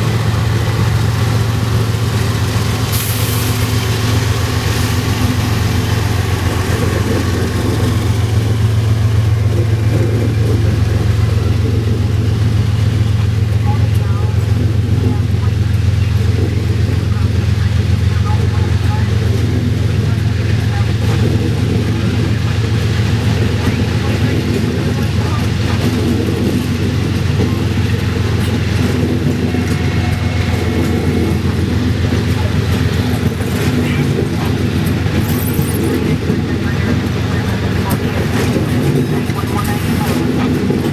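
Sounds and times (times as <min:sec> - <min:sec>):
low engine drone: 0:00.0 - 0:40.9
low vehicle rumble: 0:00.0 - 0:40.9.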